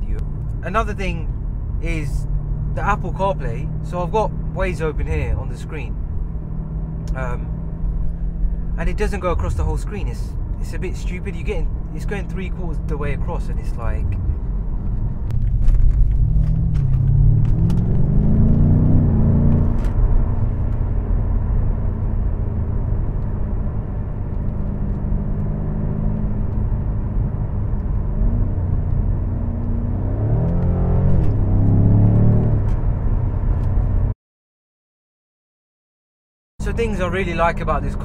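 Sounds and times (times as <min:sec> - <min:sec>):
car engine accelerating: 0:00.1 - 0:34.1.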